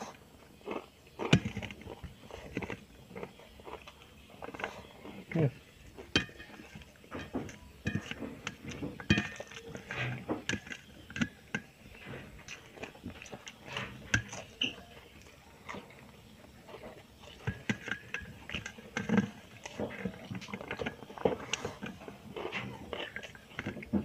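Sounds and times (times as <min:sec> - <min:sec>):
wet chewing with smacks: 0:00.0 - 0:24.0.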